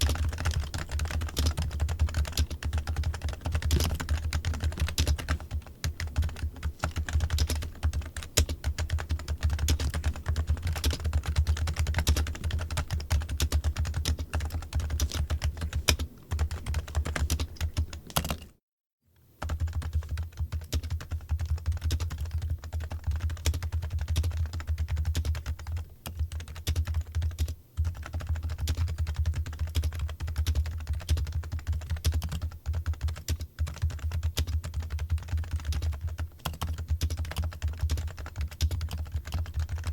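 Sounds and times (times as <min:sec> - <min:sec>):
rapid keyboard typing: 0:00.0 - 0:18.6, 0:19.4 - 0:39.9.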